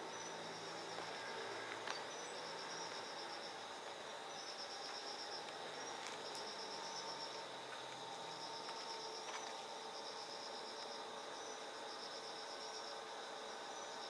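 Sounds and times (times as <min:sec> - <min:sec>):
crickets chirping: 0:00.0 - 0:14.0
faint steady hum: 0:00.0 - 0:14.0
insect hiss: 0:00.0 - 0:14.0.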